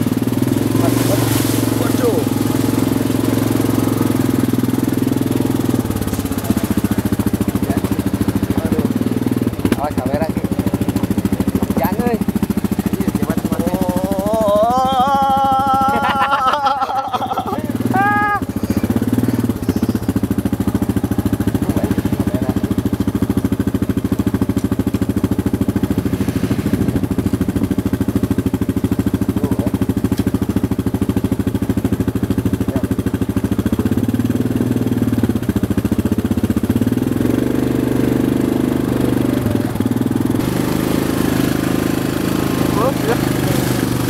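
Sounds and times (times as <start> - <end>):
atv engines droning: 0.0 - 44.0.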